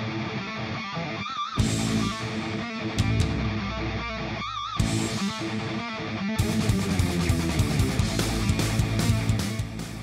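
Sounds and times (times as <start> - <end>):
guitar-led rock music: 0.0 - 10.0.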